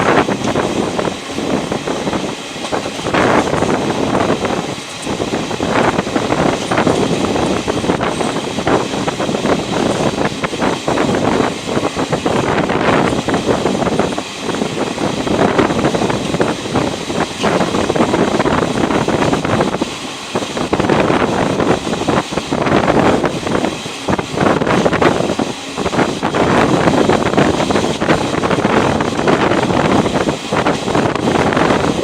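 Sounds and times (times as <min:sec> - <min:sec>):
train wheels rattling on track: 0:00.0 - 0:32.0
wind buffeting microphone: 0:00.0 - 0:32.0.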